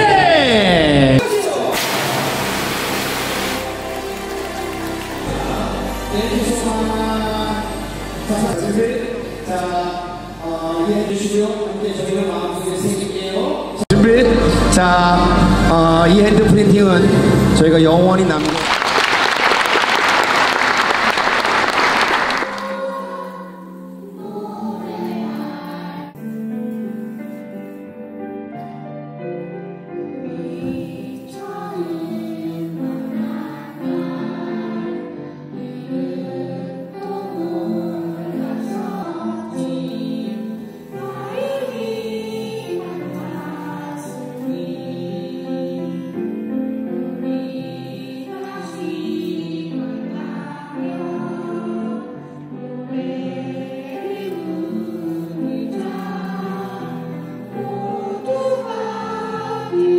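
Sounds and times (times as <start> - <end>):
children's choir singing: 0.0 - 11.4, 19.4 - 26.3, 30.1 - 59.9.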